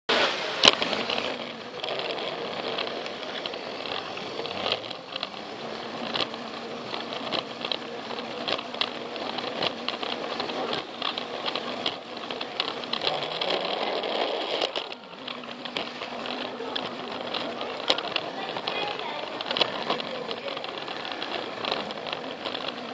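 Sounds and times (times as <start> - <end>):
plastic wheels rattling on track: 0.1 - 22.9
toy train motor buzzing: 0.1 - 22.9.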